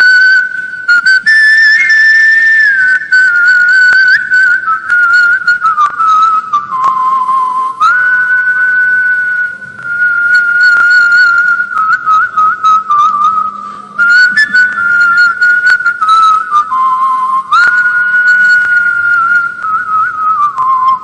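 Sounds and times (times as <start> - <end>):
man whistling a melody: 0.0 - 21.0.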